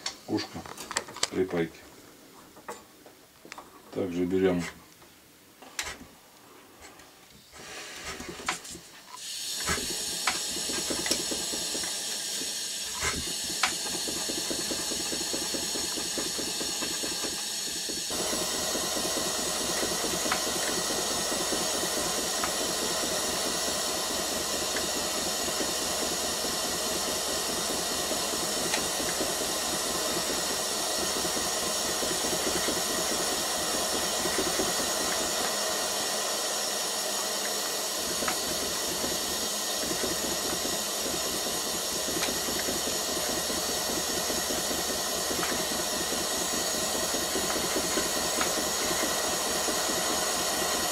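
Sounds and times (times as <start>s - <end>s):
gas torch hissing: 7.5s - 50.9s.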